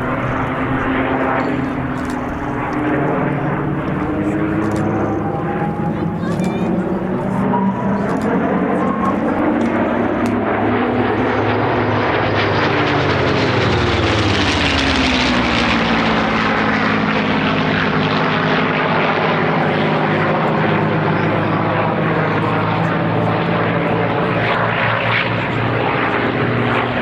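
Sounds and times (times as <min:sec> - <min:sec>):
propeller plane passing: 0:00.0 - 0:27.0.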